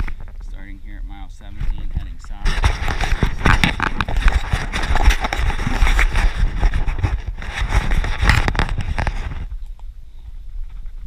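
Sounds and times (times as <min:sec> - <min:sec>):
camera crackling and rubbing: 0:00.0 - 0:09.9, 0:10.6 - 0:11.0.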